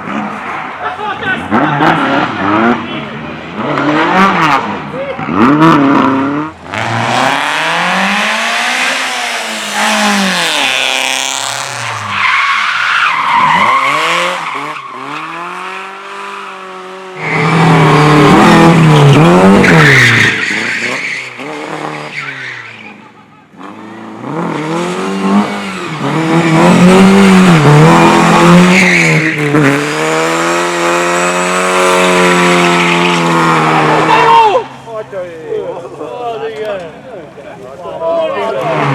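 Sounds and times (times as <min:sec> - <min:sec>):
race car engines revving: 0:00.0 - 0:38.9.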